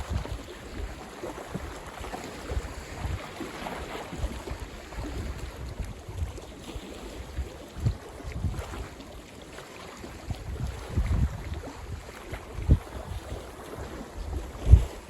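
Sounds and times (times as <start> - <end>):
wind buffeting microphone: 0.0 - 9.0, 10.0 - 15.0
waves lapping and splashing: 0.0 - 15.0.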